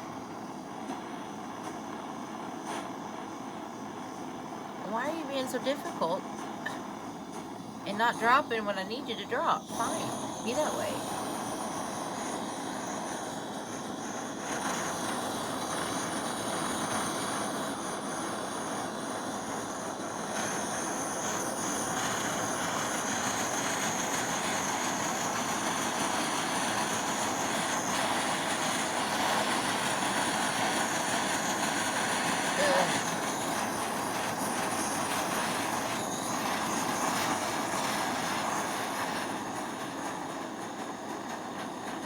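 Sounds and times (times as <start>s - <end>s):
faint high whine: 0.0s - 42.0s
gas torch hissing: 0.0s - 42.0s.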